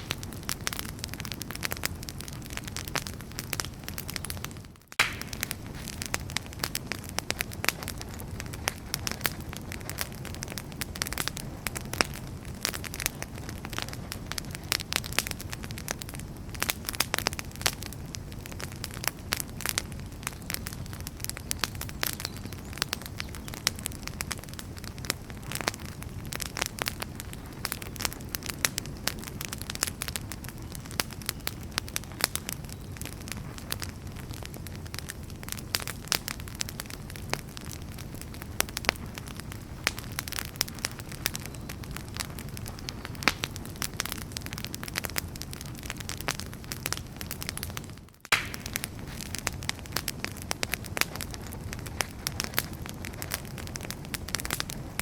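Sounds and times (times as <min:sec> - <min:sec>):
firewood crackling and popping: 0:00.0 - 0:55.0.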